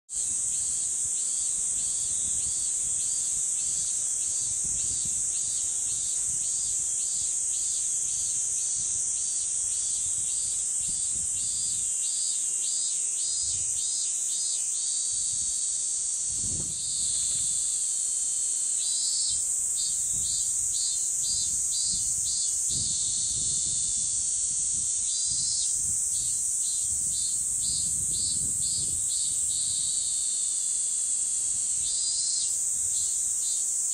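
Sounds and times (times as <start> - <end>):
insect pulsed call: 0.1 - 33.9
insects buzzing drone: 0.1 - 33.9.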